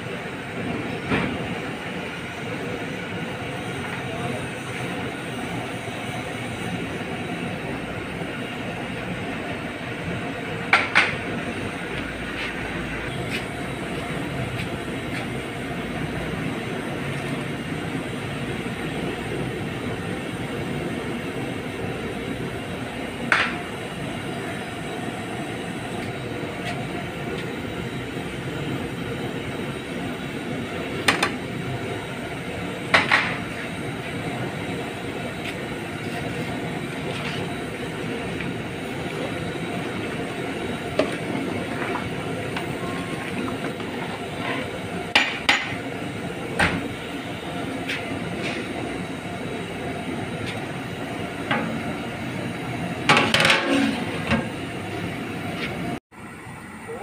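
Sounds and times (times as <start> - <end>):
pot cooking with rushing noise: 0.0 - 57.0.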